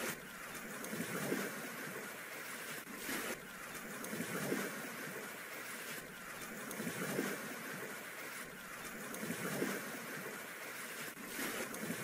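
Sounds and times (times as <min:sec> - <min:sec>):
rushing sea: 0:00.0 - 0:12.0
wind: 0:00.0 - 0:12.0.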